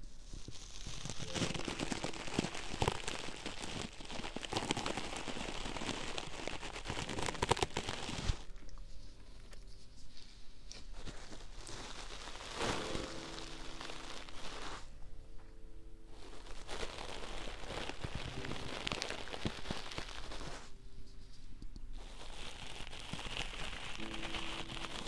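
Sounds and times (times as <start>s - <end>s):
crackly rustling and crinkling: 0.0s - 25.0s.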